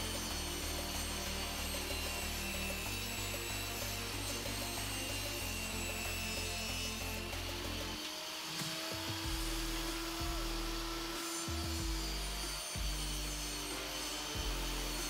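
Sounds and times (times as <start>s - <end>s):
background music with bass: 0.0s - 8.0s, 9.1s - 15.0s
table saw cutting plastic: 0.0s - 15.0s.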